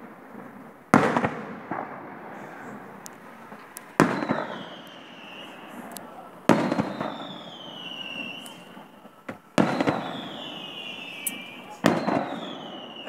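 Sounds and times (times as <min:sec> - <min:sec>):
firework shells bursting: 0:00.0 - 0:13.0
rolling echo: 0:00.0 - 0:13.0.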